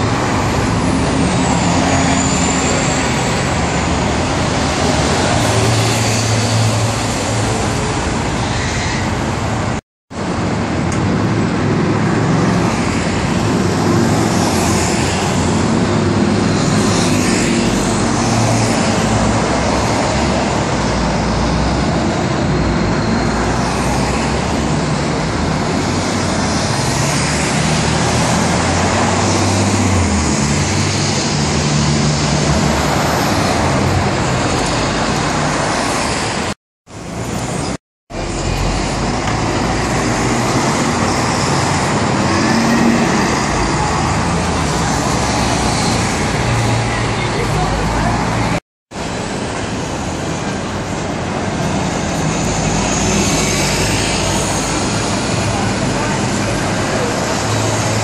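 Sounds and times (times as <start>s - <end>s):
traffic driving past: 0.0s - 58.0s.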